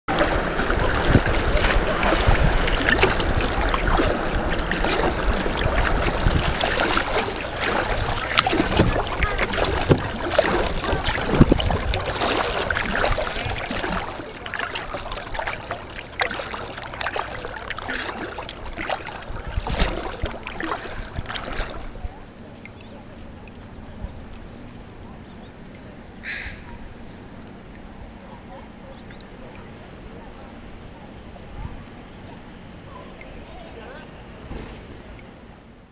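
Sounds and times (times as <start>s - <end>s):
wind rumbling on microphone: 0.1s - 33.8s
water splashing around kayak: 0.1s - 35.9s.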